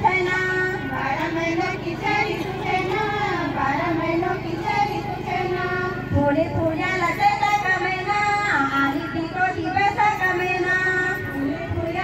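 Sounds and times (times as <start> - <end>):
women singing through loudspeaker: 0.0 - 12.0.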